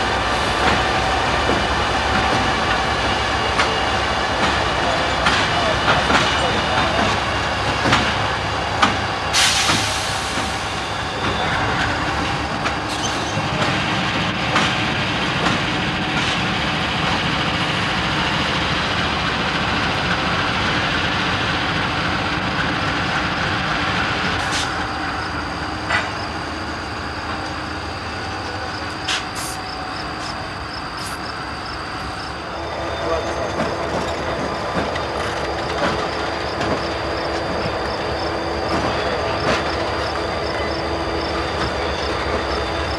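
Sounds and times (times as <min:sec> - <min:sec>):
diesel locomotive engines running: 0:00.0 - 0:42.9
train wheels rumbling on rails: 0:00.0 - 0:42.9.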